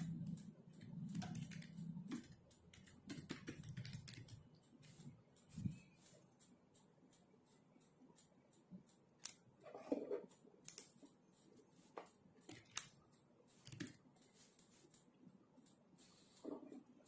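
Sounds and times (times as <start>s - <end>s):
keyboard typing: 0.0s - 11.8s, 12.4s - 17.0s.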